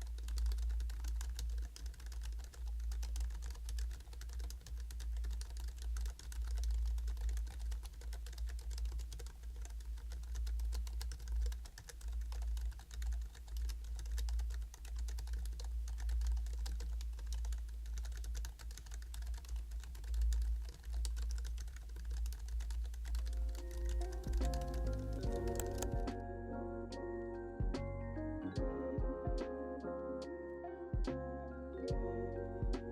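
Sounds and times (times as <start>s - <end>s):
keyboard typing: 0.0s - 26.3s, 28.6s - 32.9s.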